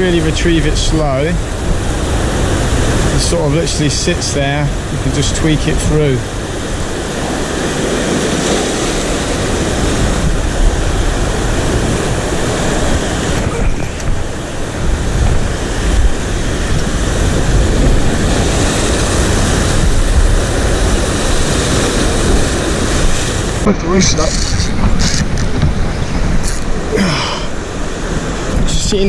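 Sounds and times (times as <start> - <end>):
waves washing on shore: 0.0 - 29.0
wind buffeting microphone: 0.0 - 29.0.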